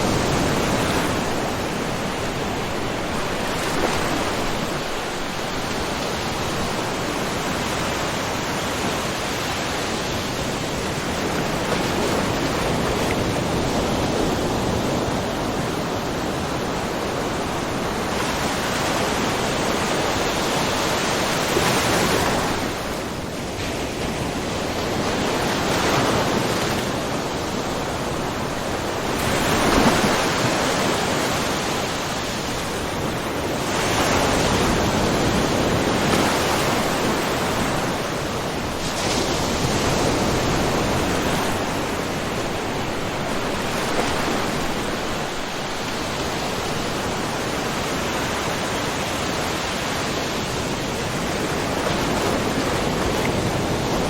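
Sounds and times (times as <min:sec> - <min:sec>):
waves lapping on rocky shore: 0:00.0 - 0:54.0.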